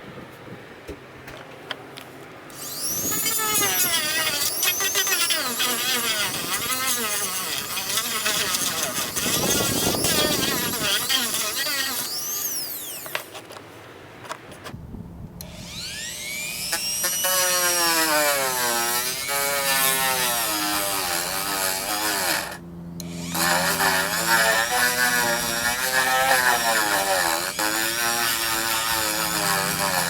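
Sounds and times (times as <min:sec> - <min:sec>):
rotary tool whining: 0:02.5 - 0:13.6, 0:15.4 - 0:30.0.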